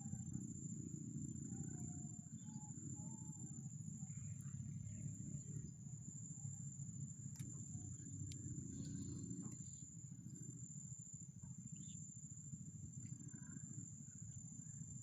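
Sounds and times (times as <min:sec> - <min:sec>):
high-pitched insect drone: 0:00.0 - 0:15.0
faint chirping calls: 0:01.2 - 0:15.0.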